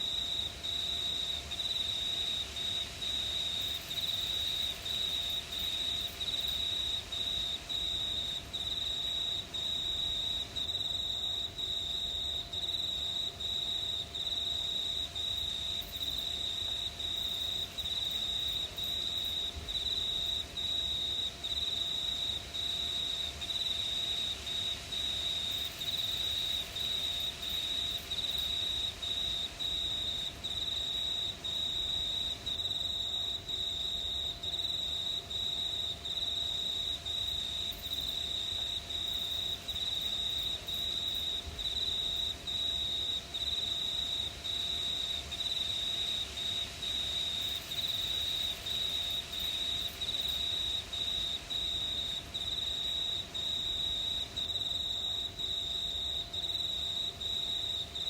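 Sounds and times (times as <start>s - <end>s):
crickets chirping: 0.0s - 58.0s
faint night hiss: 0.0s - 58.0s.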